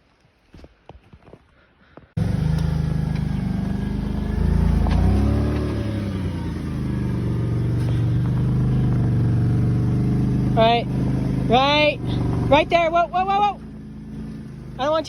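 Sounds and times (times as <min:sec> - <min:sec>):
truck engine starting and revving: 0:02.2 - 0:15.0.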